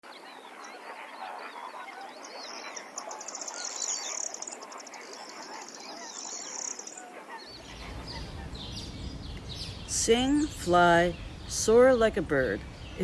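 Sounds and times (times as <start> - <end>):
birds chirping and whistling: 0.2 - 13.0.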